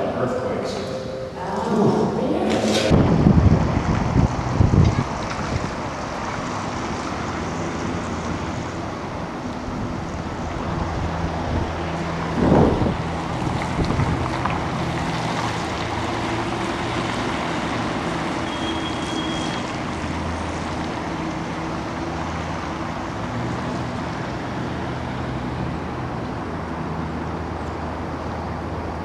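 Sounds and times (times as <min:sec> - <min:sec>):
street traffic noise: 0:00.0 - 0:29.0.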